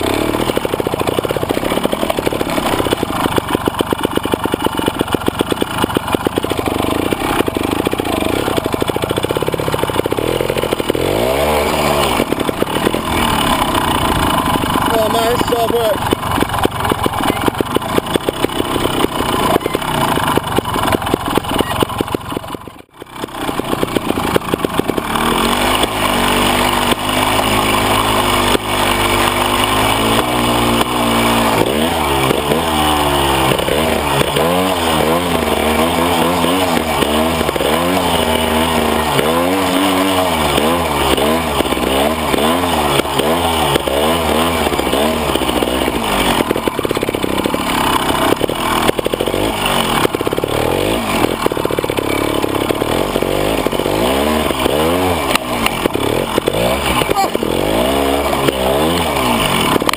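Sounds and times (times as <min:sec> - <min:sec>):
motorcycle engine chugging and revving: 0:00.0 - 0:59.9.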